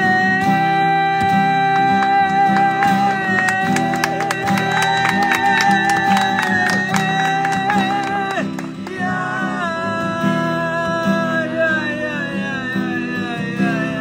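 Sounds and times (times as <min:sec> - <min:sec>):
acoustic guitars strummed: 0:00.0 - 0:14.0.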